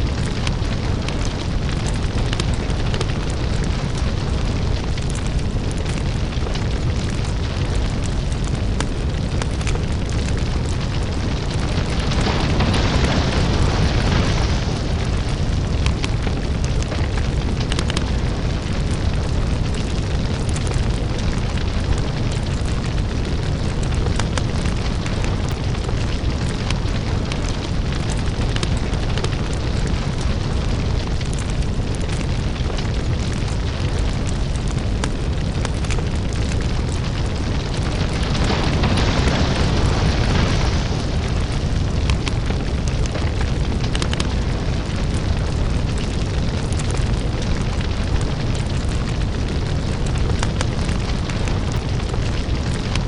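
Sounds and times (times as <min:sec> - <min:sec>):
deep fire rumble: 0:00.0 - 0:53.0
fire crackles and pops: 0:00.0 - 0:53.0.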